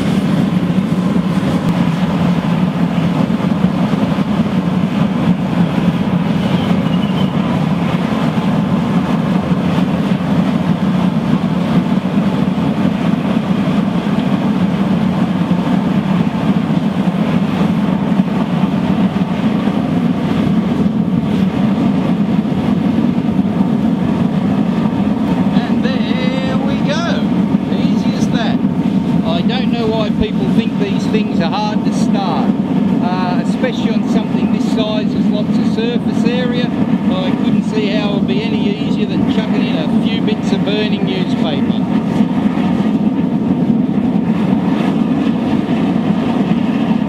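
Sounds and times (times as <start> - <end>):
oil burner blower and flame roaring: 0.0 - 47.0.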